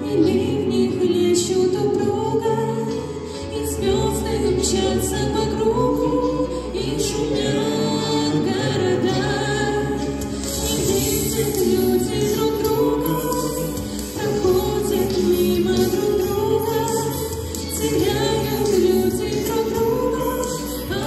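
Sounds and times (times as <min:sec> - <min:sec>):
man and woman singing duet: 0:00.0 - 0:21.0
musical accompaniment: 0:00.0 - 0:21.0.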